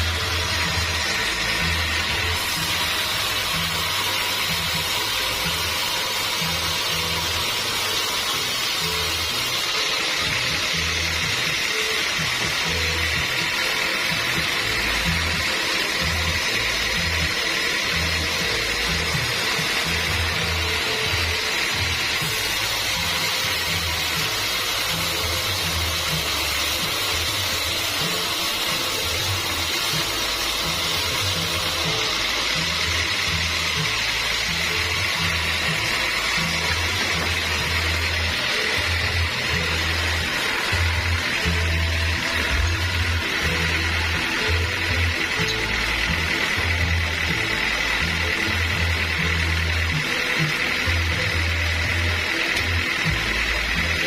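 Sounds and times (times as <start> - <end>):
background music with bass line: 0.0 - 54.0
loud machine noise: 0.0 - 54.0.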